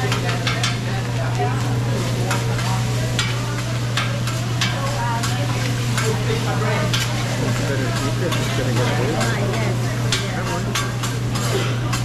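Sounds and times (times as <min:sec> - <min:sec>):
rice sizzling: 0:00.0 - 0:12.0
metal spatula scraping and clacking: 0:02.3 - 0:12.0.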